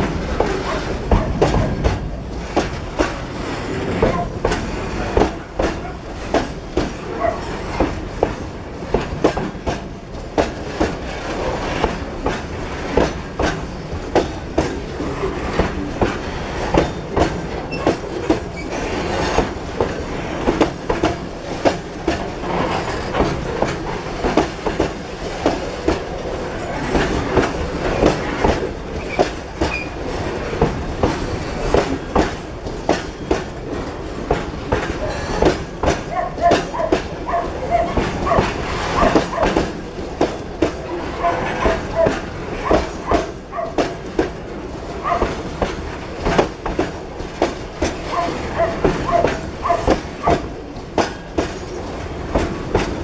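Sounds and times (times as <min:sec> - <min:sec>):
train wheels clickety-clack: 0:00.0 - 0:53.0.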